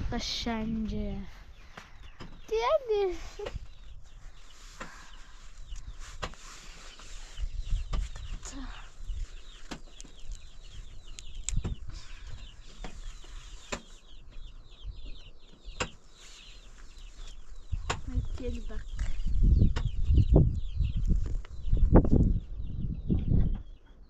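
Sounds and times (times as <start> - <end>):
chickens chirping: 1.4 - 24.0.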